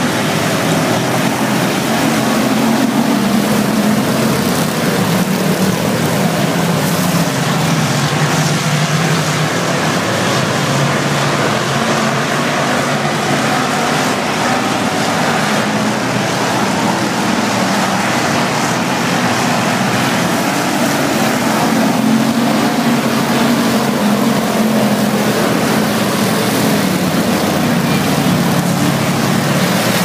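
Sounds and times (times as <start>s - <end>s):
race car engines roaring: 0.0s - 30.0s.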